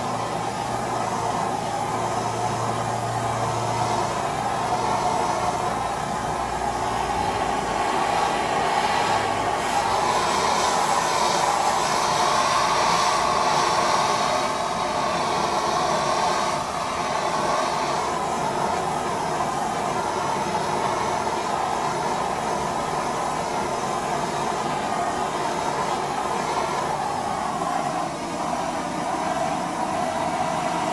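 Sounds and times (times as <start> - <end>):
blowtorch flame hissing: 0.0 - 30.9.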